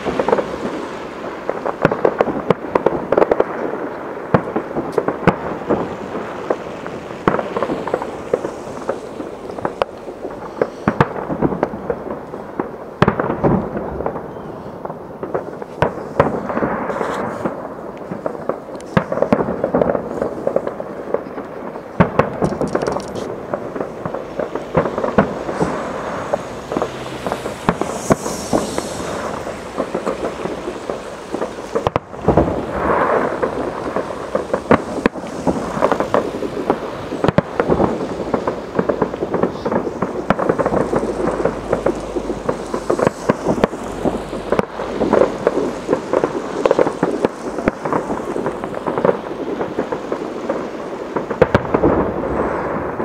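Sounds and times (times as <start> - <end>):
fireworks bangs: 0.0 - 53.0
fireworks crackling and popping: 0.0 - 53.0.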